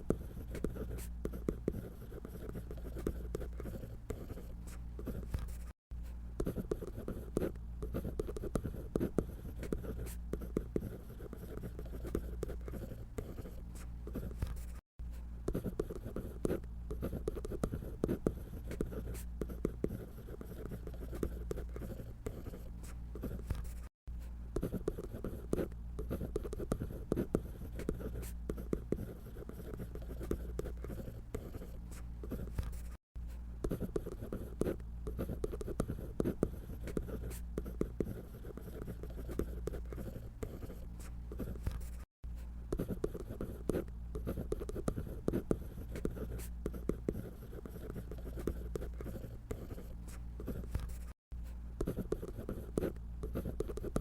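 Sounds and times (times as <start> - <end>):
drawing tool scratching on paper: 0.0 - 5.8, 6.4 - 14.8, 15.5 - 23.9, 24.6 - 33.0, 33.6 - 42.1, 42.7 - 51.2, 51.8 - 54.0.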